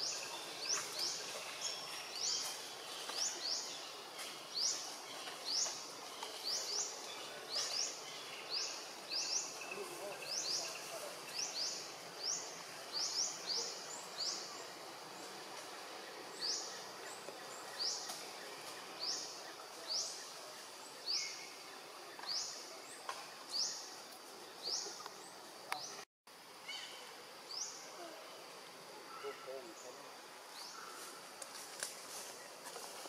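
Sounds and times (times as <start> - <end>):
forest background hiss: 0.0 - 33.0.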